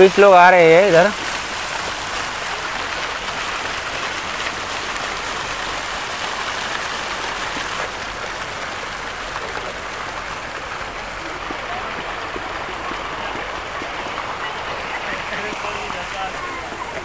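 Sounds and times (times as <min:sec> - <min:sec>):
fountain jets splashing: 0:00.0 - 0:17.0.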